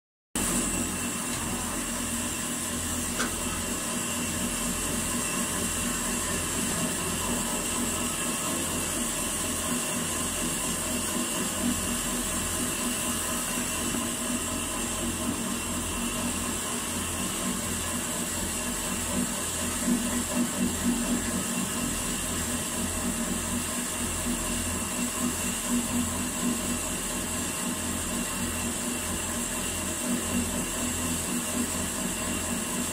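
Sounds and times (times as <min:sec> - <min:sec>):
foam-cutting machinery humming: 0:00.4 - 0:32.9.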